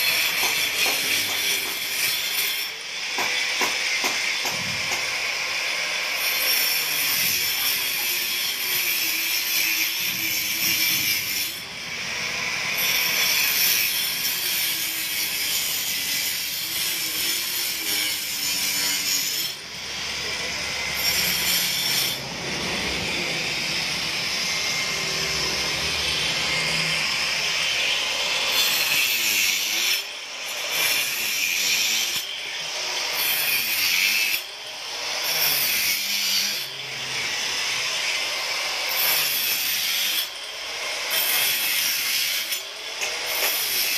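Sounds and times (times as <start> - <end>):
angle grinder cutting concrete: 0.0 - 43.9.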